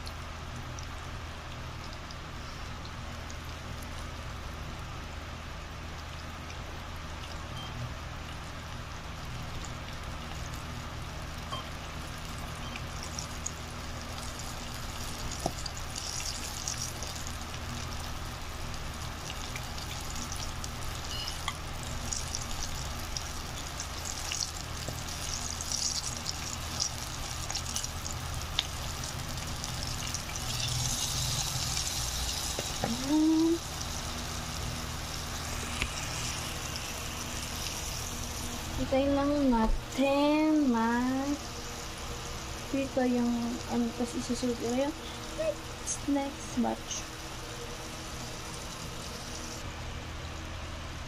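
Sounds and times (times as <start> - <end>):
chicken frying in oil: 0.0 - 49.7.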